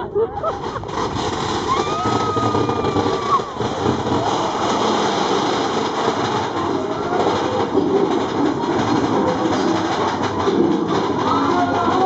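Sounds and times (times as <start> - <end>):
roller coaster wheels clattering: 0.0 - 12.0.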